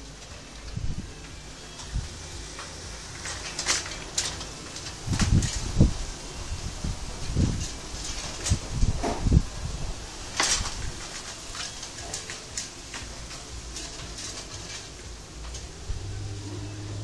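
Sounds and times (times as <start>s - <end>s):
bicycle rattling on concrete: 0.0s - 17.0s
low hum: 0.0s - 17.0s.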